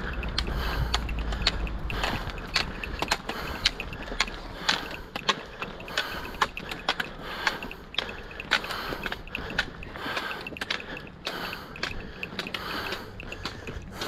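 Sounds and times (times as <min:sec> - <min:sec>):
trekking poles clicking on pavement: 0:00.0 - 0:14.0
walking footsteps: 0:00.0 - 0:14.0.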